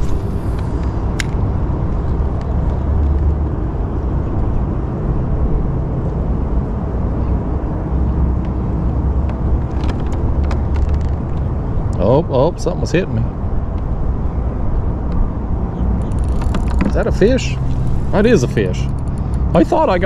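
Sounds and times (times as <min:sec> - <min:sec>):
wind buffeting microphone: 0:00.0 - 0:12.0, 0:13.3 - 0:20.0.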